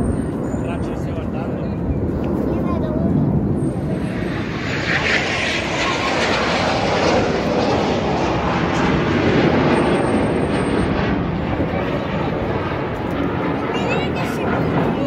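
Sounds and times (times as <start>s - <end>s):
jet flying past overhead: 0.0s - 15.0s.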